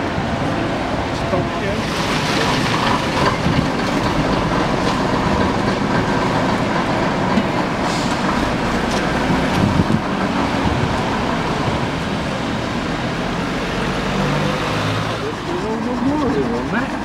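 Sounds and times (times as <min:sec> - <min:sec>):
diesel coach engine running: 0:00.0 - 0:17.0.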